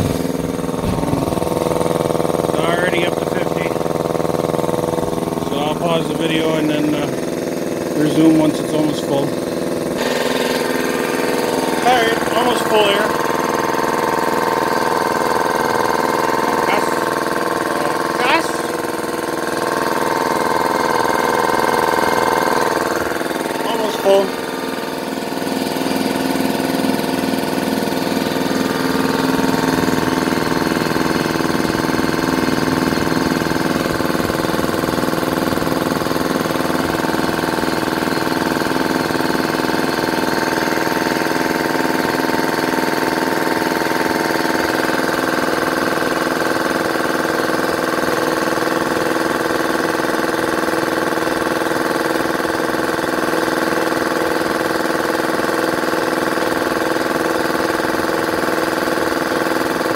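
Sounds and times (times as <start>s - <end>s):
air compressor running: 0.0s - 59.9s.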